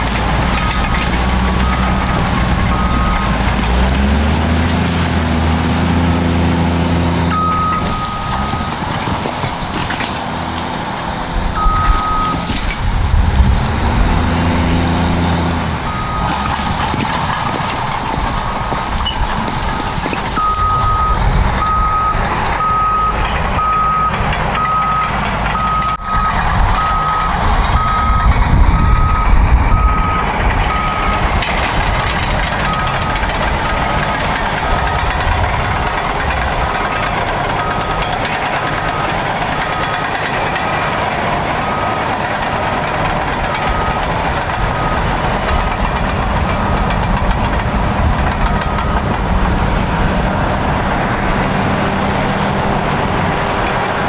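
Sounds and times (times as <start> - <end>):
reversing alarm beeping: 0.0 - 5.6, 6.5 - 10.2, 11.6 - 13.2, 13.8 - 31.4, 32.1 - 47.3, 48.0 - 49.2
bulldozer diesel engines: 0.0 - 54.0.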